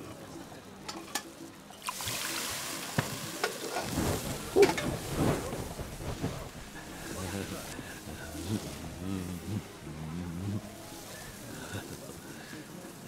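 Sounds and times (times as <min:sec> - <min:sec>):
hot pan sizzling: 0:01.9 - 0:13.0.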